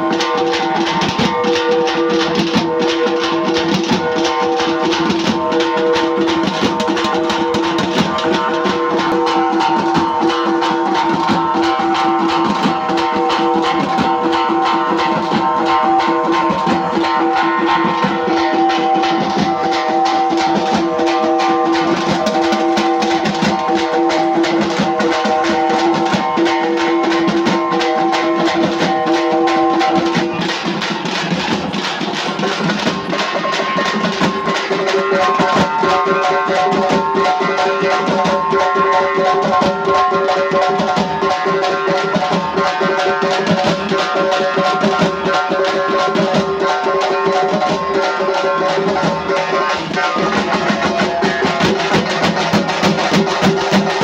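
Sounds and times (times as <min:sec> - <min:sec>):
large drums beaten fast: 0:00.0 - 0:54.0.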